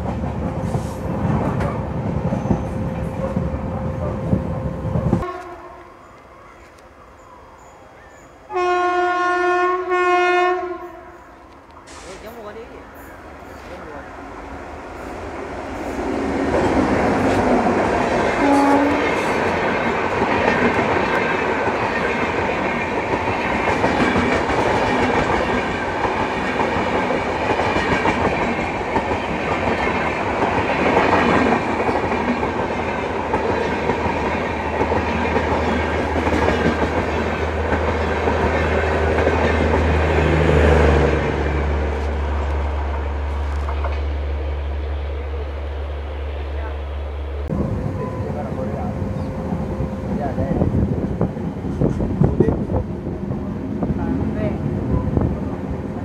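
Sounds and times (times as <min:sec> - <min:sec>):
train wheels rumbling and clacking: 0:00.0 - 0:05.3, 0:14.6 - 0:56.0.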